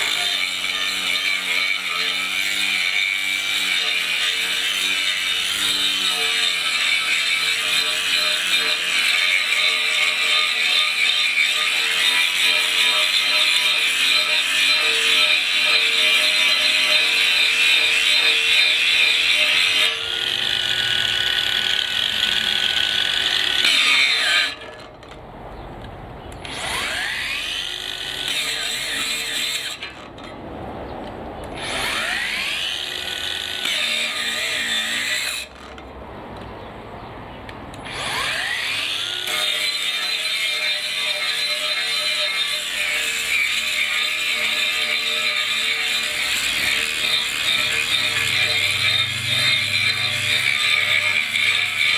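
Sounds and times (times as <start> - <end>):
angle grinder cutting steel: 0.0 - 25.2, 26.3 - 30.5, 31.4 - 36.0, 37.7 - 51.9.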